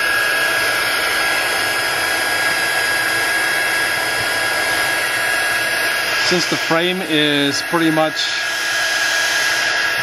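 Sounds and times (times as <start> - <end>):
heat gun blowing with high whine: 0.0 - 10.0.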